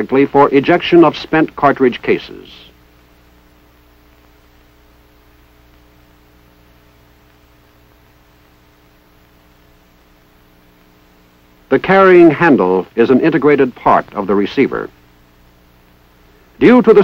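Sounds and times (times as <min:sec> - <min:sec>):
electrical hum: 0:00.0 - 0:17.0
even hiss: 0:00.0 - 0:17.0.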